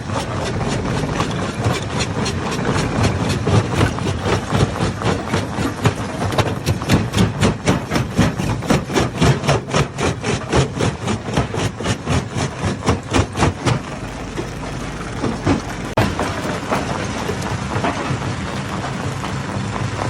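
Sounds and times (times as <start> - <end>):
stone crusher humming: 0.0 - 20.0.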